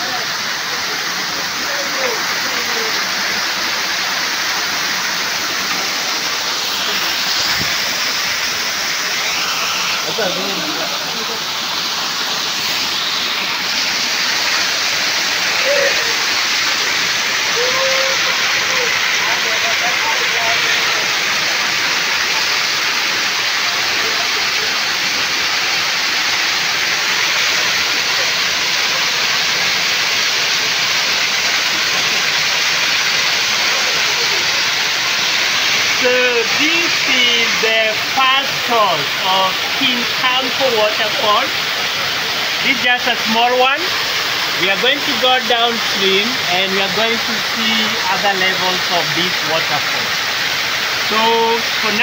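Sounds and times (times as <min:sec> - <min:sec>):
waterfall rushing onto rocks: 0:00.0 - 0:52.0.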